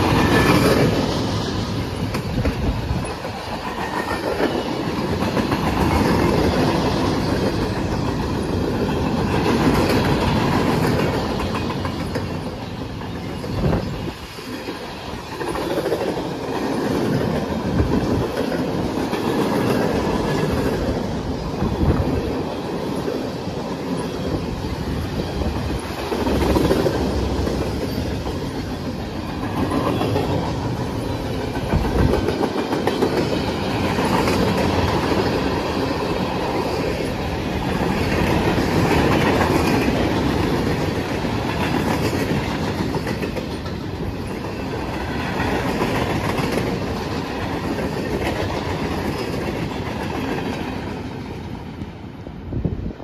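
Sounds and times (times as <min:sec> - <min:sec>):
train wheels clacking on rails: 0:00.0 - 0:52.1
train rumble: 0:00.0 - 0:53.0.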